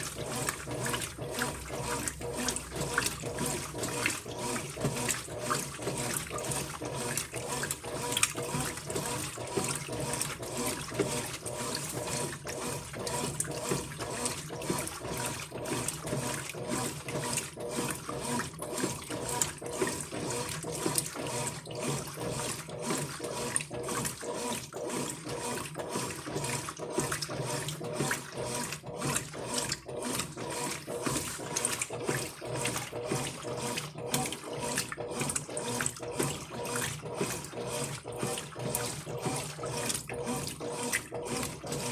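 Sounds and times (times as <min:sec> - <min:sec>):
water sloshing in washing machine: 0:00.0 - 0:41.9.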